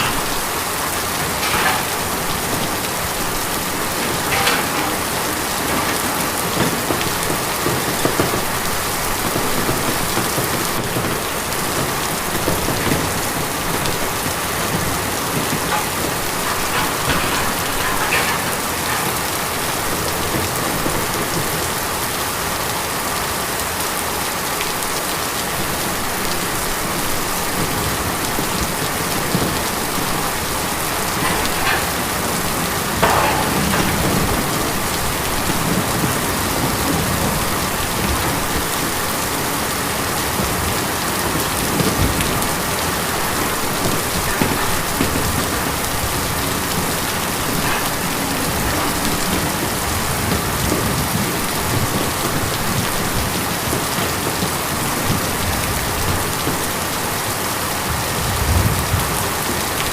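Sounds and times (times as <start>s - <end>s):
heavier raindrops: 0.0s - 59.9s
rain on a tin roof: 0.0s - 59.9s.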